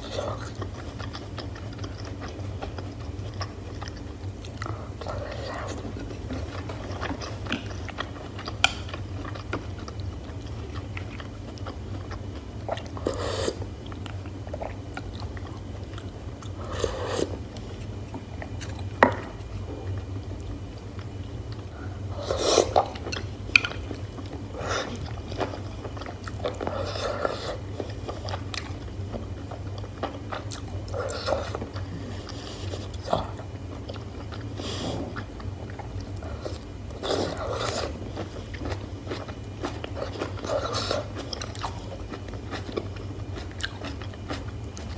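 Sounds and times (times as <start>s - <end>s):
close-miked chewing and biting: 0.0s - 21.7s, 22.6s - 44.9s
steady low hum: 0.0s - 44.9s.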